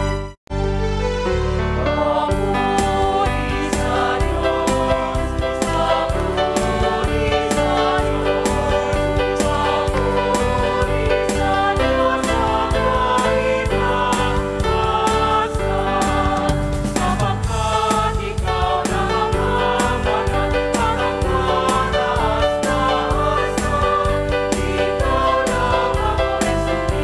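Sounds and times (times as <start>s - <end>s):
worship music with singing: 1.7s - 27.0s.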